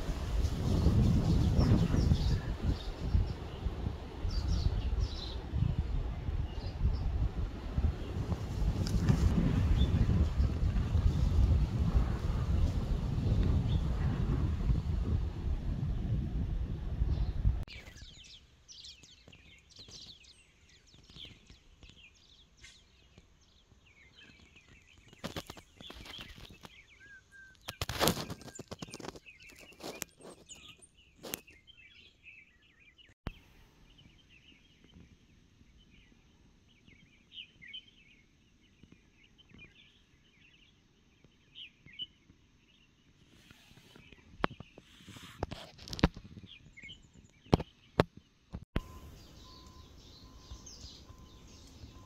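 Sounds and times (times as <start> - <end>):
small birds chirping: 0.0 - 11.6, 17.1 - 52.0.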